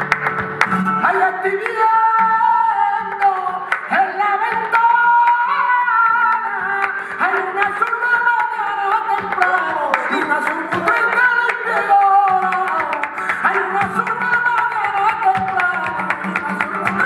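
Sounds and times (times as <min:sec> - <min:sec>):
flamenco guitar: 0:00.0 - 0:17.0
man singing flamenco: 0:00.0 - 0:17.0
rhythmic hand-clapping: 0:00.0 - 0:17.0.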